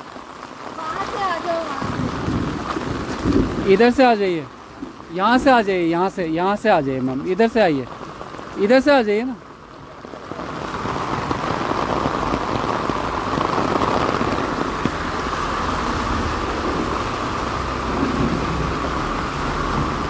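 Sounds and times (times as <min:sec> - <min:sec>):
heavy rain drumming on umbrella: 0:00.0 - 0:20.0.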